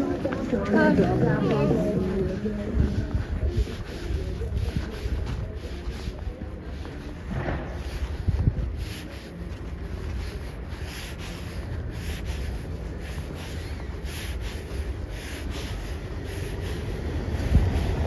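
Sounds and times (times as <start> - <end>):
footsteps crunching in snow: 0.0 - 18.0
wind rumbling on microphone: 0.0 - 18.0.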